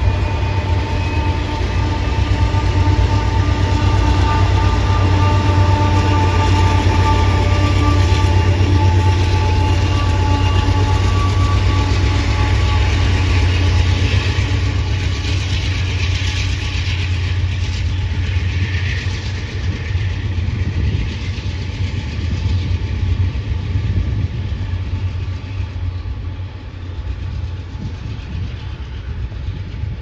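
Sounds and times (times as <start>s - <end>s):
train rumbling on rails: 0.0s - 30.0s
wheel on rail hiss: 0.0s - 30.0s.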